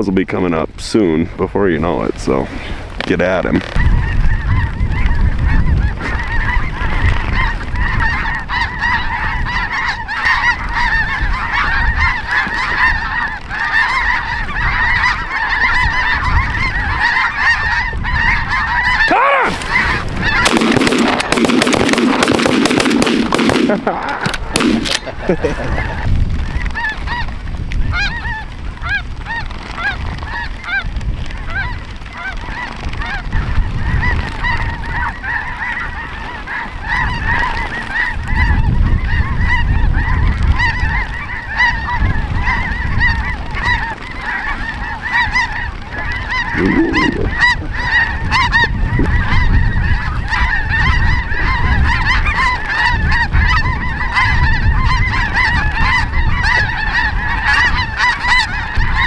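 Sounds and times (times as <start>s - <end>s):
snow geese honking: 2.9s - 59.0s.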